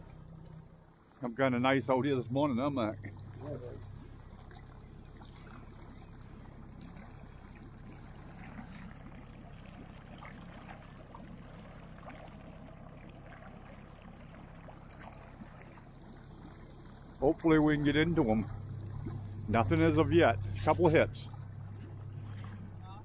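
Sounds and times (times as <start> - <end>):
boat motor humming: 0.0 - 23.0
water lapping along hull: 0.0 - 23.0.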